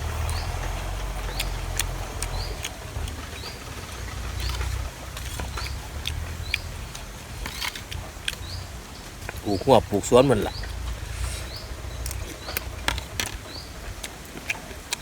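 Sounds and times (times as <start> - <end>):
tractor engine rumble: 0.0 - 15.0.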